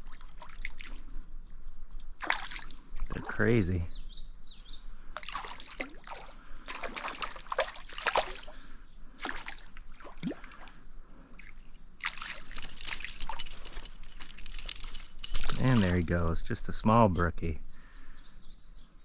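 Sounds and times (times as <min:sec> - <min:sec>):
water splashing and trickling: 0:00.0 - 0:03.9, 0:05.1 - 0:18.0.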